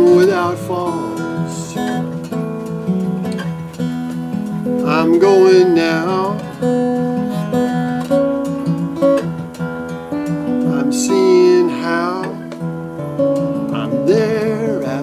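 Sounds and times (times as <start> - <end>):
solo acoustic guitar: 0.0 - 15.0.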